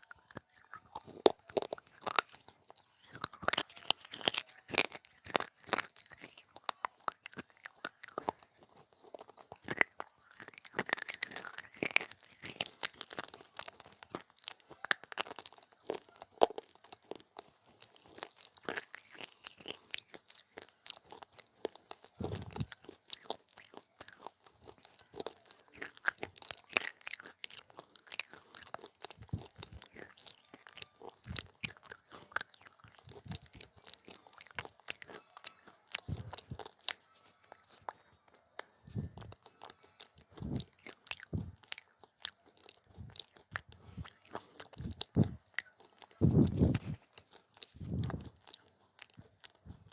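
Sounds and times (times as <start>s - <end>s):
crunchy chewing: 0.0s - 49.9s.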